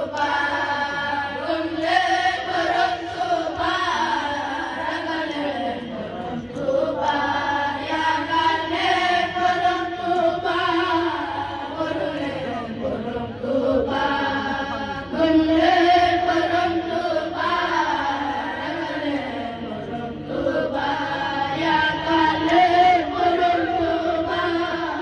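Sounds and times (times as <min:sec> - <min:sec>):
boys chanting in unison: 0:00.0 - 0:25.0.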